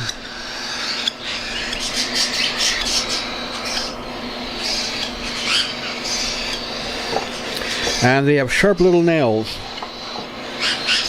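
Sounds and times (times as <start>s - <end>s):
chicks begging calls: 0.0s - 8.2s, 8.8s - 11.0s.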